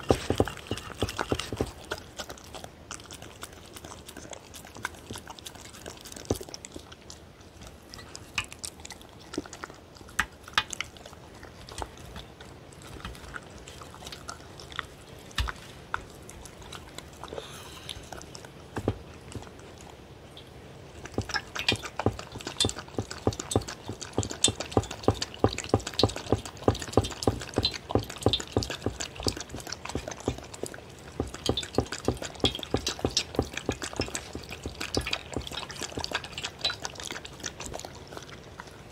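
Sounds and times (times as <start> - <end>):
dog lapping milk: 0.0 - 19.8, 21.0 - 38.9
dog licking and chewing: 0.0 - 38.9.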